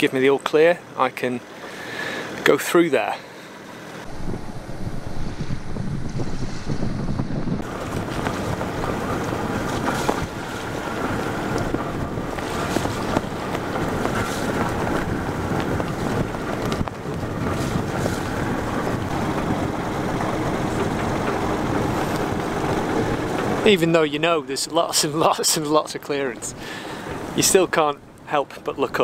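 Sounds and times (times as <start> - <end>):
boat engine running: 3.0 - 29.0
wind buffeting microphone: 4.0 - 29.0
water washing along hull: 4.1 - 29.0.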